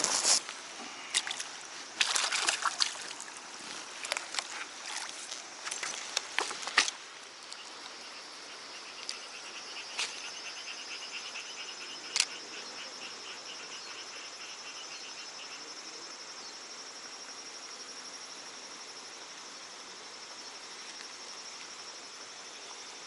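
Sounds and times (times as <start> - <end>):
insect chirping in pulses: 0.0 - 23.0
insects trilling: 0.0 - 23.0.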